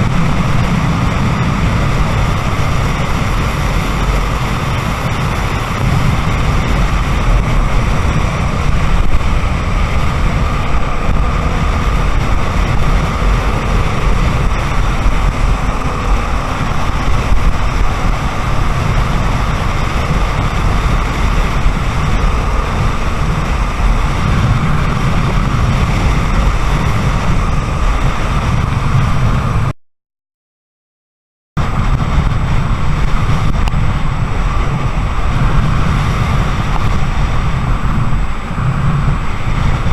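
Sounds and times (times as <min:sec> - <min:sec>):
motorcycle engine running: 0:00.0 - 0:29.7, 0:31.6 - 0:39.9
wind rush on microphone: 0:00.0 - 0:29.8, 0:31.6 - 0:39.9.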